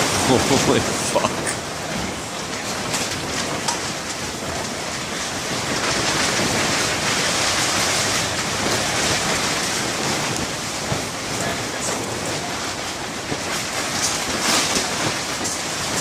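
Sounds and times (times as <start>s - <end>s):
storm wind gusting against plastic: 0.0s - 16.0s.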